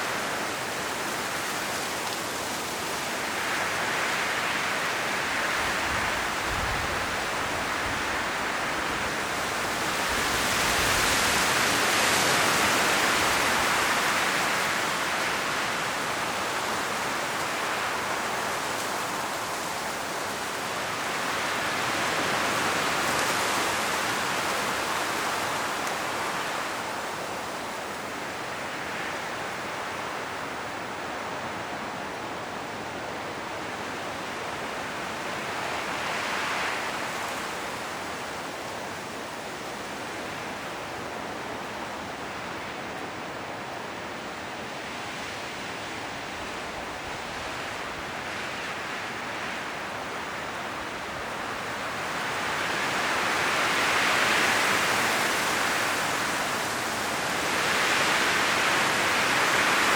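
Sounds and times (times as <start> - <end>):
wind rustling leaves in trees: 0.0 - 59.9.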